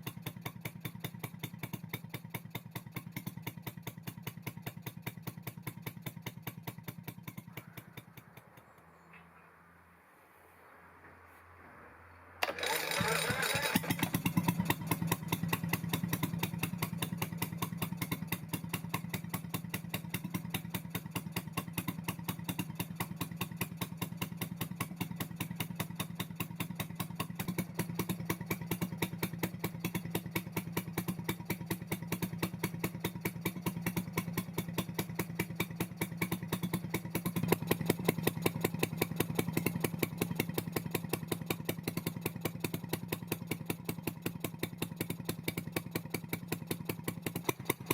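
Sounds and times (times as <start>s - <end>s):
two-stroke boat engine running: 0.0s - 8.8s, 12.4s - 47.9s.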